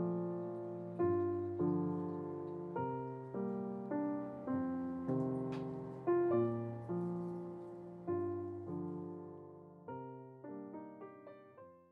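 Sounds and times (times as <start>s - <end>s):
soft piano chords: 0.0s - 11.9s.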